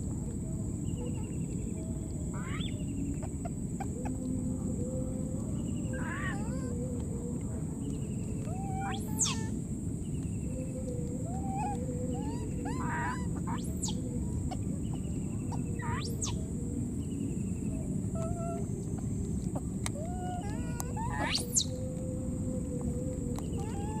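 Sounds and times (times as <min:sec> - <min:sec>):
constant low rumble: 0:00.0 - 0:24.0
wild animal calls and chirps: 0:00.1 - 0:24.0.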